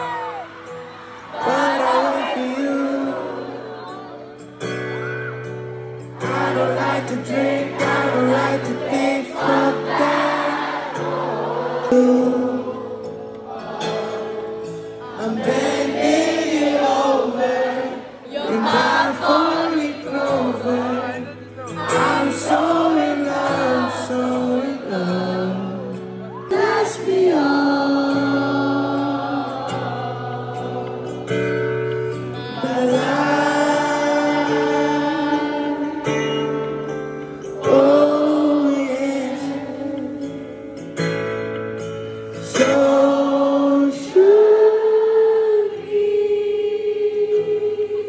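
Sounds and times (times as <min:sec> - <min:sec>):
slow rnb song sung live: 0:00.0 - 0:48.0.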